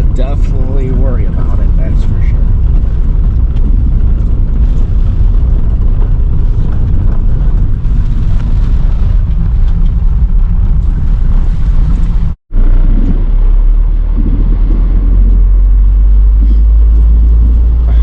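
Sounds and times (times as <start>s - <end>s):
car rumbling on the move: 0.0s - 18.0s.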